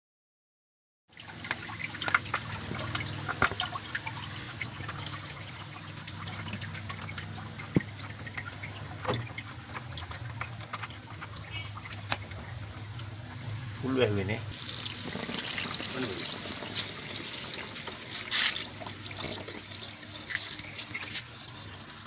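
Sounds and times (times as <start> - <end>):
water dripping and trickling: 1.1 - 22.0.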